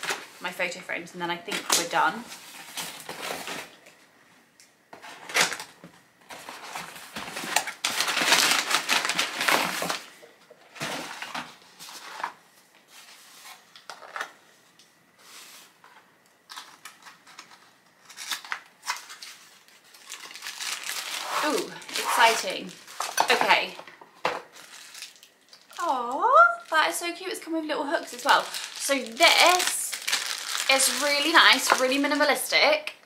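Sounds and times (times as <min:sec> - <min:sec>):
cardboard packaging rustling and tearing: 0:01.5 - 0:03.8, 0:05.0 - 0:14.4, 0:15.2 - 0:23.8, 0:24.4 - 0:26.8, 0:28.0 - 0:32.4.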